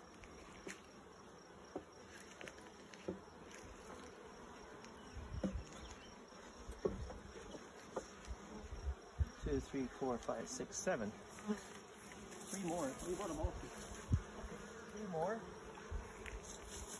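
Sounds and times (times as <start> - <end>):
honeybees buzzing: 0.0 - 16.9.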